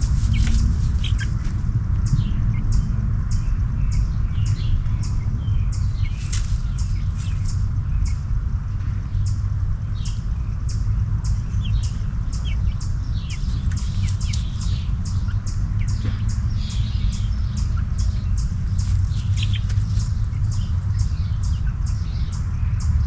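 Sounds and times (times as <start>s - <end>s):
chicks peeping: 0.0s - 23.0s
steady low hum: 0.0s - 23.0s.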